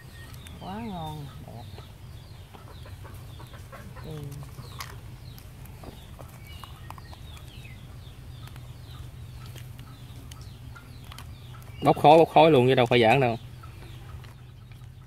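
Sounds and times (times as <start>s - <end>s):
chicks peeping: 0.0s - 15.0s
steady low hum: 0.0s - 15.0s
chicken clucking: 0.2s - 15.0s.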